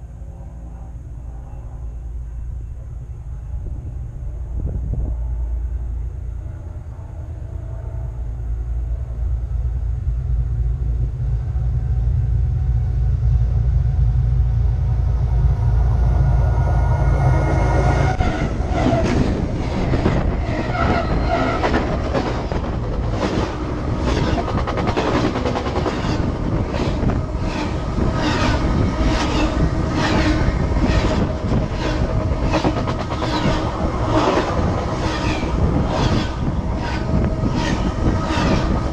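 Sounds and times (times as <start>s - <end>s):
rattle of train cars: 0.0s - 38.9s
train rumbling overhead: 0.0s - 38.9s.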